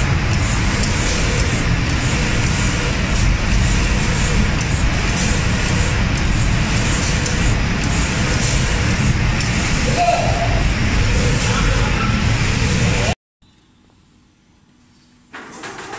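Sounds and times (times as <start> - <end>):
spray-painting machine hissing: 0.0 - 13.2.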